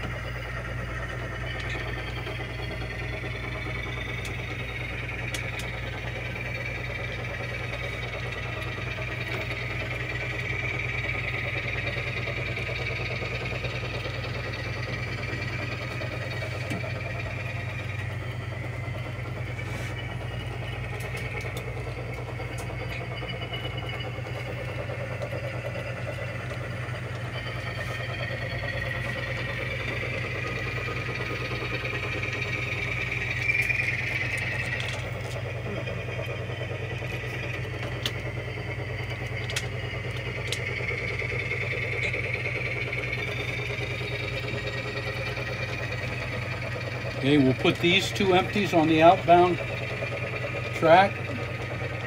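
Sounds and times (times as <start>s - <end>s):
low hum: 0.0s - 52.0s
model locomotive diesel engine sound: 0.0s - 52.0s.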